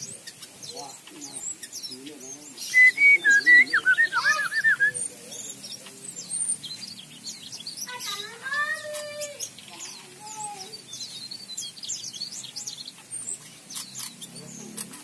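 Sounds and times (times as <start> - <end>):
bird chirping and twittering: 0.0 - 15.0.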